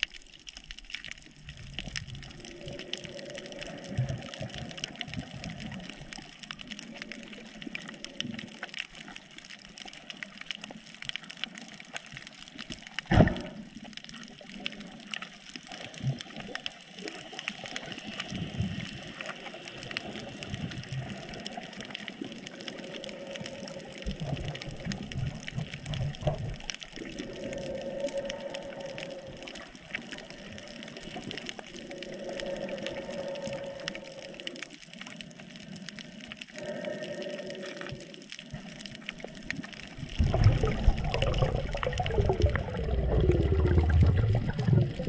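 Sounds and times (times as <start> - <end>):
crackling clicks: 0.0 - 45.0
water sloshing and bubbling: 0.0 - 45.0.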